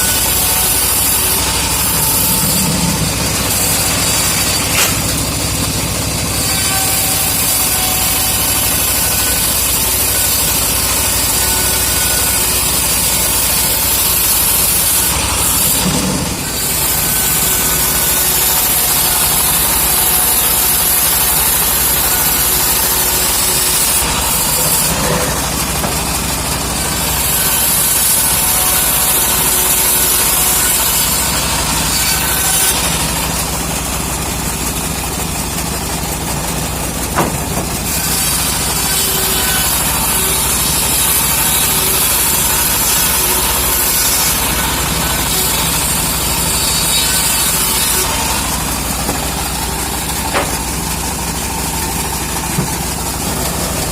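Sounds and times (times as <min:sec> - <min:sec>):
engine drone: 0:00.0 - 0:53.9
saw blade cutting wood: 0:00.0 - 0:53.9.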